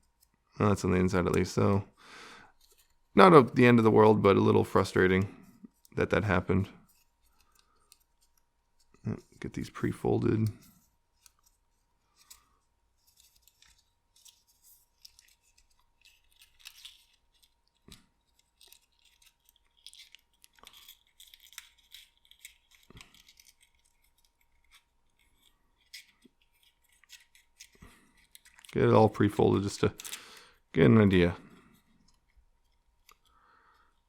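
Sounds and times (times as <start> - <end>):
card crinkling and folding: 2.5 - 34.0.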